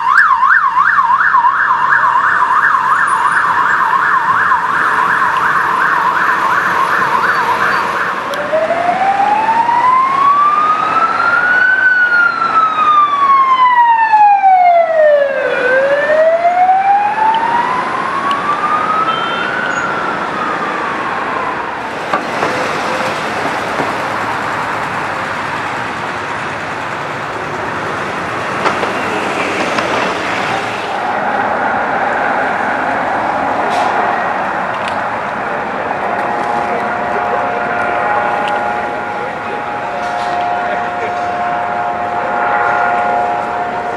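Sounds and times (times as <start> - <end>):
emergency siren: 0.0 - 43.9
passing traffic: 0.0 - 43.9.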